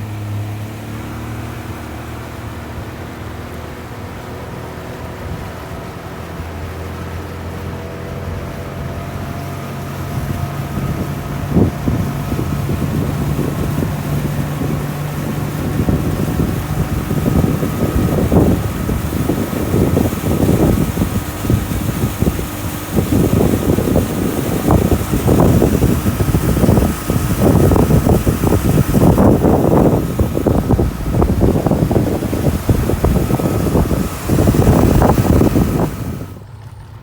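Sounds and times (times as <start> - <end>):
motor engine running: 0.0 - 37.0
wind buffeting microphone: 0.0 - 37.0.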